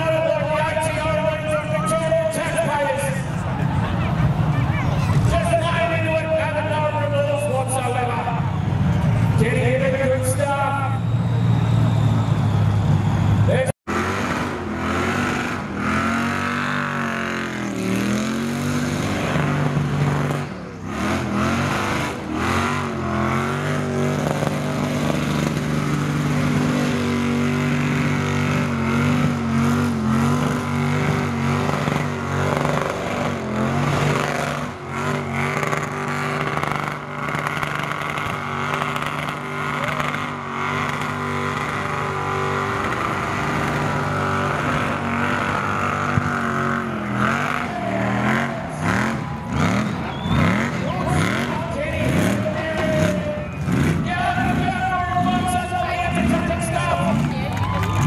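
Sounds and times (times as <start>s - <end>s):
truck engine revving high: 0.0s - 58.0s.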